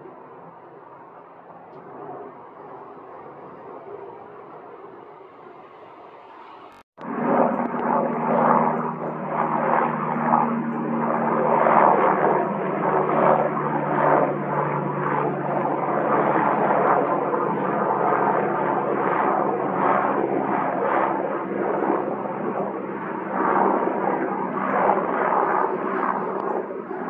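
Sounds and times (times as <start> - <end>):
helicopter flying overhead: 0.0 - 27.0.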